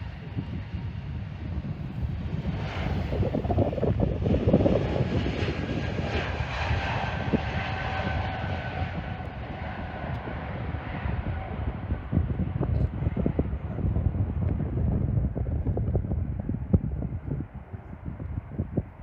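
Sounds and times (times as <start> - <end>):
jet airliner engines passing: 0.0 - 19.0
wind buffeting microphone: 0.0 - 19.0.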